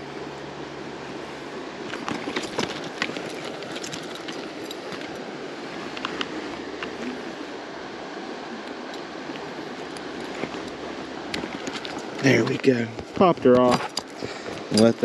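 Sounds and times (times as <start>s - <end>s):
flowing creek: 0.0s - 15.0s.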